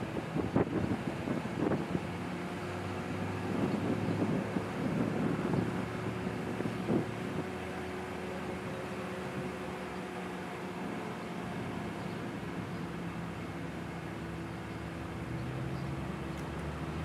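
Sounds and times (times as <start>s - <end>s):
distant train hum with wind: 0.0s - 17.0s.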